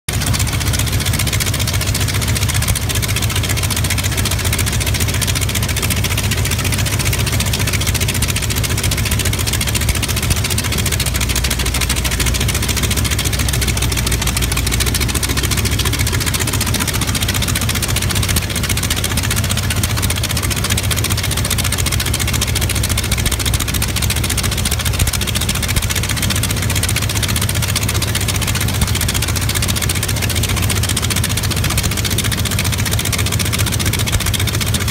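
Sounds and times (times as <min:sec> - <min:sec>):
radial aircraft engine idling: 0:00.1 - 0:34.9.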